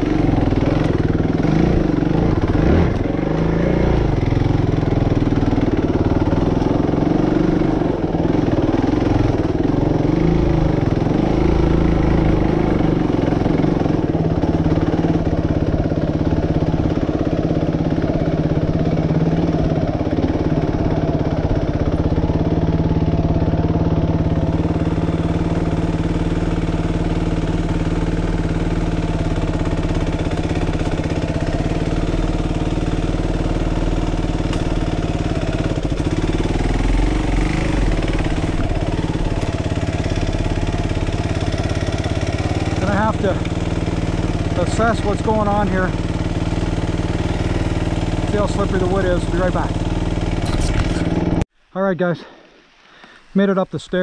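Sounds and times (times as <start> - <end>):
motorcycle engine revving and idling: 0.0 - 51.5.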